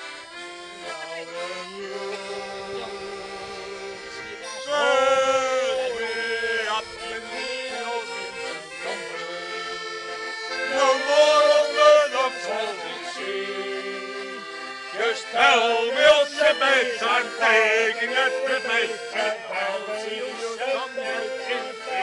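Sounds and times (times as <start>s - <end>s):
piano accordion playing: 0.0s - 22.0s
man singing held wavering notes: 1.1s - 14.4s, 15.0s - 22.0s.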